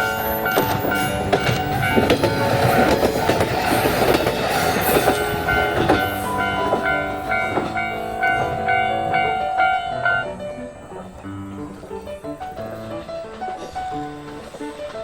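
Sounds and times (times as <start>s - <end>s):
background music: 0.0s - 15.0s
train wheels clacking on rail joints: 0.0s - 15.0s.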